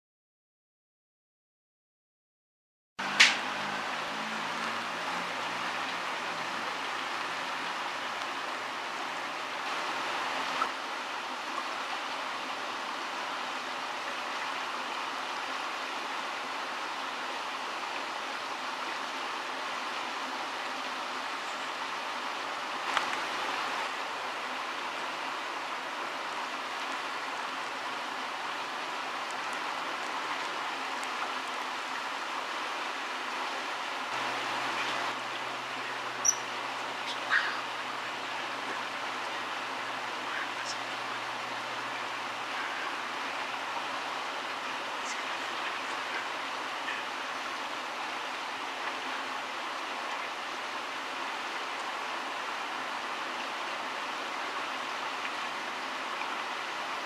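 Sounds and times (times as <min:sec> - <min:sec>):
river water rushing: 0:03.0 - 0:57.0.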